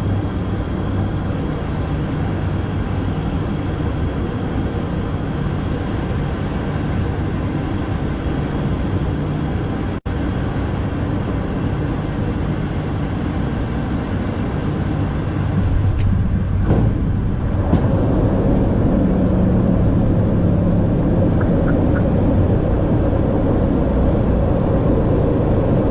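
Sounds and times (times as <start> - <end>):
steady low hum: 0.0 - 25.9
turboprop engines droning: 0.0 - 25.9.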